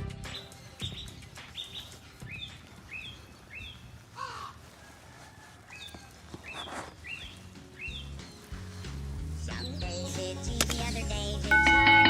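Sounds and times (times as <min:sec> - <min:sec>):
rough bird calls: 0:00.2 - 0:10.4.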